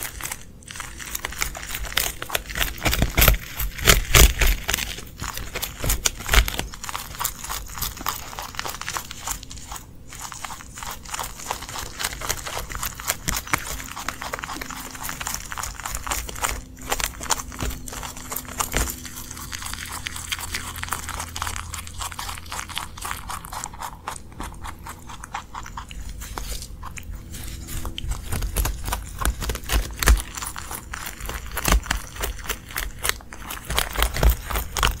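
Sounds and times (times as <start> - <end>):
chewing and crunching a leaf: 0.0 - 35.0.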